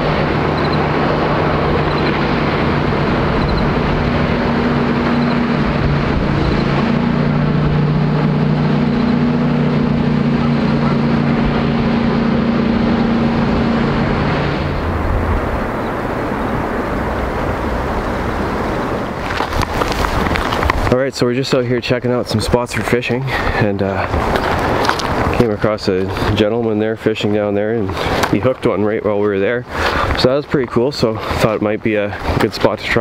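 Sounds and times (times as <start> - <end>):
boat engine droning: 0.0 - 33.0
fast river water rushing: 0.0 - 33.0.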